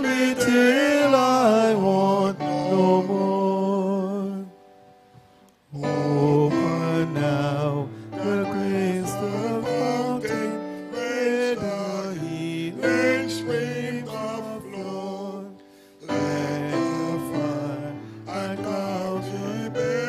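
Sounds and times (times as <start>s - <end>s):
hymn singing with instruments: 0.0s - 20.0s.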